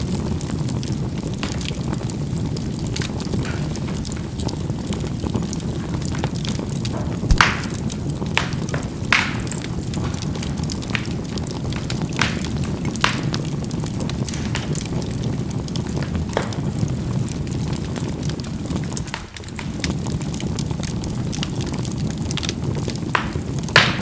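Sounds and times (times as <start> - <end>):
charcoal popping and crackling: 0.0 - 24.0
fire rumbling: 0.0 - 24.0.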